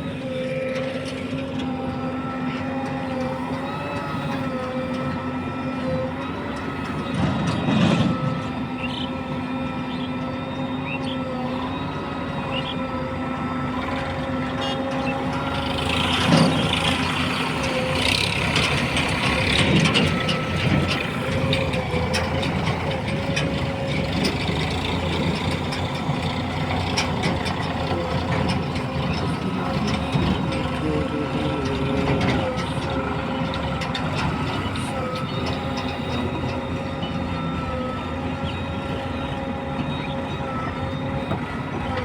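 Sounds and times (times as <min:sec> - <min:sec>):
diesel engines running: 0:00.0 - 0:42.0.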